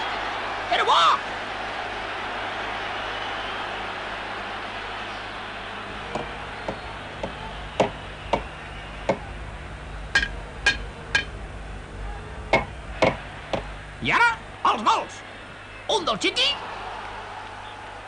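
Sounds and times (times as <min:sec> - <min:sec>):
crowd noise: 0:00.0 - 0:18.0.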